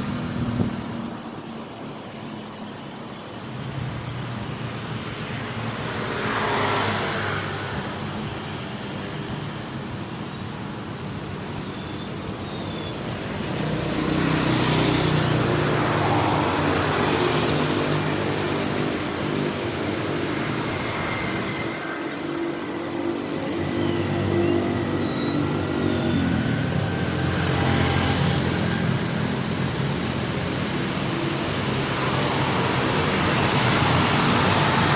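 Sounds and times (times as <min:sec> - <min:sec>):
loud vehicles passing: 0:00.0 - 0:08.9, 0:12.2 - 0:34.9
street traffic engines: 0:00.0 - 0:34.9.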